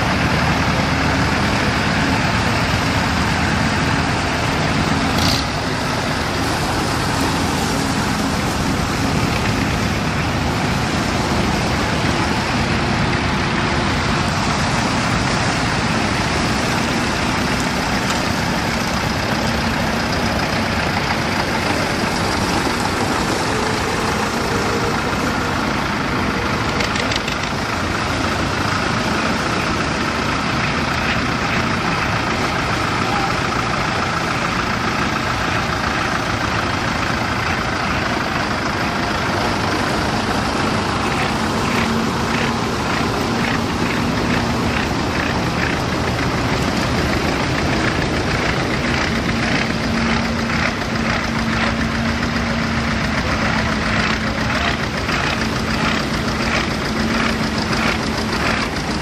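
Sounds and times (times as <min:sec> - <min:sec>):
engine knocking: 0:00.0 - 0:59.0
tractor engines droning: 0:00.0 - 0:59.0.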